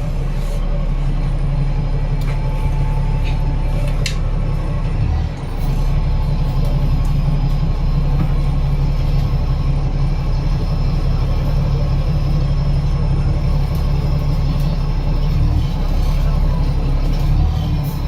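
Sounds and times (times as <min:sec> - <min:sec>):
bus engine drone from inside: 0:00.0 - 0:18.0.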